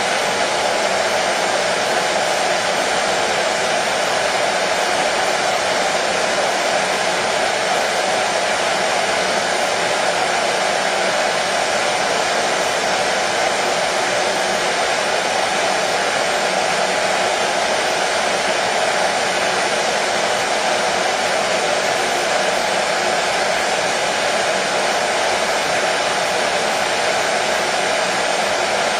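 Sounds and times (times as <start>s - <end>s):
hair dryer running: 0.0s - 28.9s.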